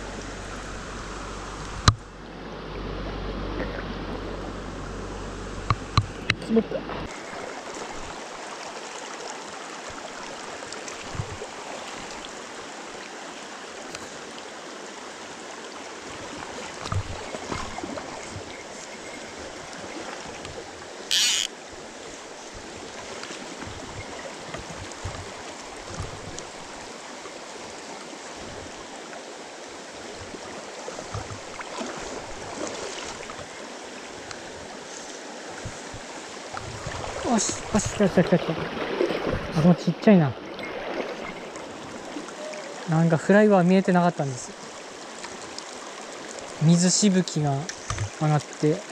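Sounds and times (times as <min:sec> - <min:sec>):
stream running over stones: 0:00.0 - 0:48.9.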